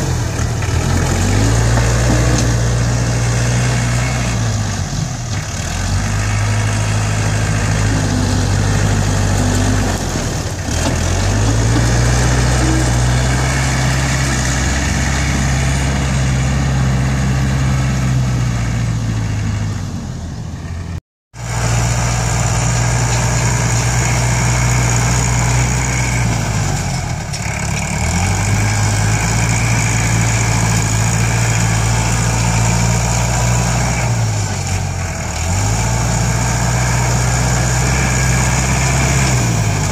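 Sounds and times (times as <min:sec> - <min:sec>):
tractor diesel engine labouring: 0:00.0 - 0:39.9.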